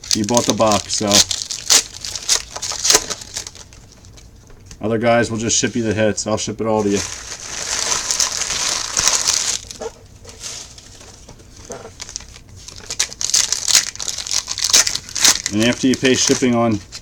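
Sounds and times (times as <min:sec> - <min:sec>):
plastic packaging crinkling and tearing: 0:00.0 - 0:04.4, 0:06.8 - 0:17.0.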